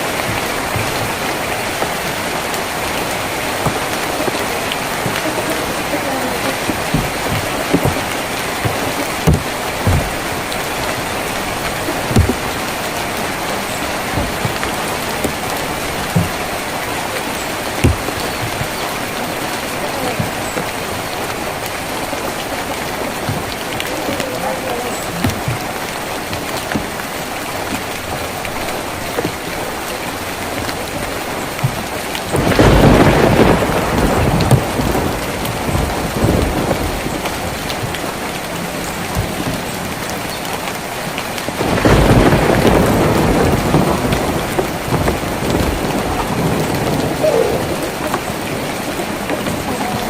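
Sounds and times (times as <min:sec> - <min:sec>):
rain on a tin roof: 0:00.0 - 0:50.0.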